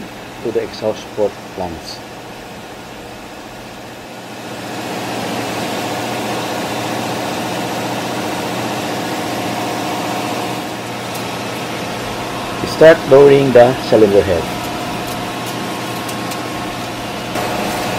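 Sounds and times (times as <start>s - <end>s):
engine-room machinery drone: 0.0s - 17.9s.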